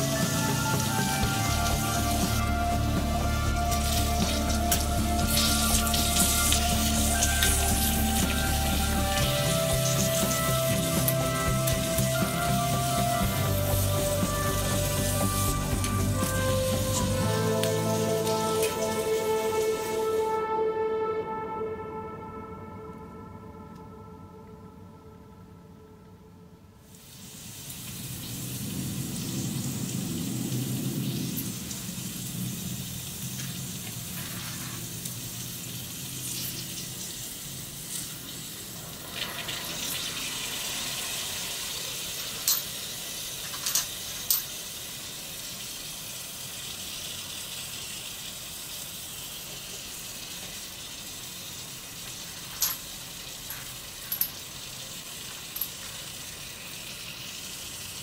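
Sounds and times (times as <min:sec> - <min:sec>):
food sizzling in wok: 0:00.0 - 0:20.5, 0:26.8 - 0:58.0.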